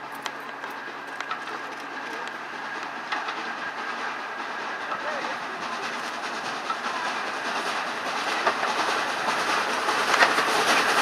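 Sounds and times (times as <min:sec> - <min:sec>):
steam train rumble: 0:00.0 - 0:11.0
wheels clicking over rail joints: 0:00.0 - 0:11.0.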